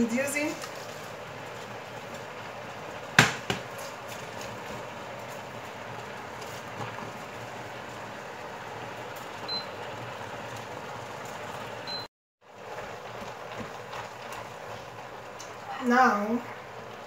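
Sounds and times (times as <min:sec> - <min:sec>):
leeks sizzling in a pot: 0:00.0 - 0:17.0.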